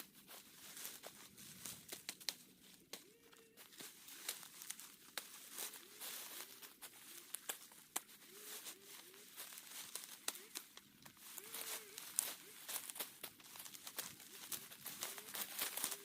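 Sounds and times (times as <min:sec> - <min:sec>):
corn husks rustling and crackling: 0:00.0 - 0:16.0.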